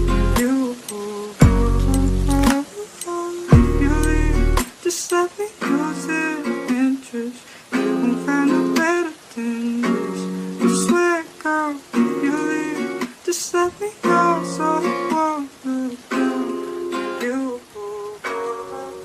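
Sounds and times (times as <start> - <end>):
acoustic guitar phrases: 0.0 - 19.0.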